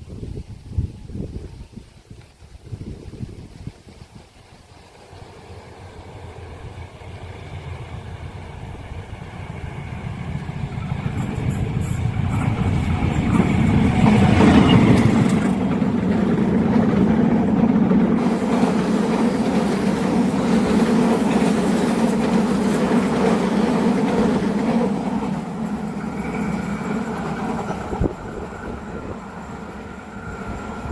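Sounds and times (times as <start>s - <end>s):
wheels rumbling on rails: 3.0s - 30.9s
train passing: 4.4s - 30.9s.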